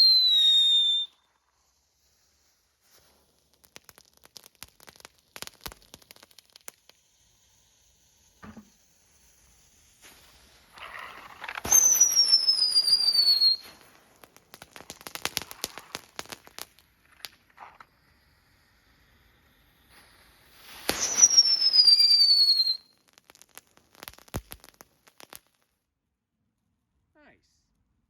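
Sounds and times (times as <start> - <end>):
falling firework whistle: 0.0 - 25.4
firework crack: 0.0 - 25.8
firework pops and crackles: 0.0 - 25.8.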